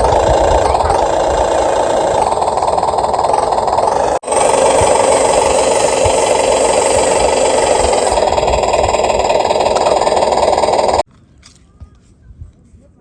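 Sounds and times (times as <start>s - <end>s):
electric gear motors whirring: 0.0s - 11.0s.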